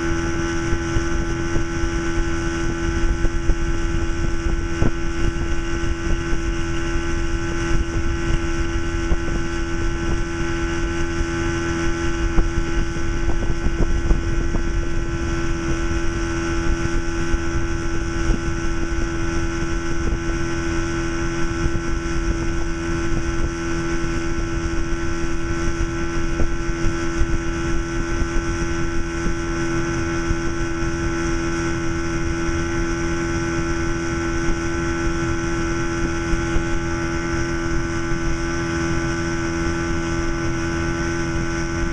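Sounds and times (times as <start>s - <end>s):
outboard motor running: 0.0s - 41.9s
wind buffeting microphone: 0.0s - 41.9s.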